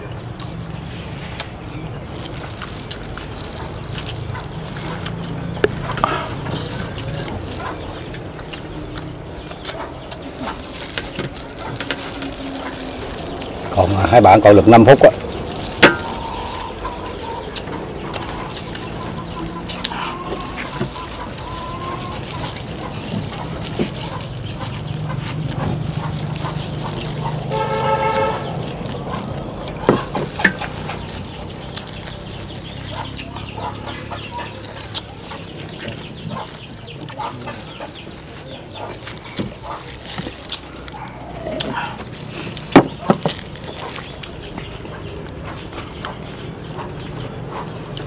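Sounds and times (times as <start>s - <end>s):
chickens: 0.4s - 48.0s.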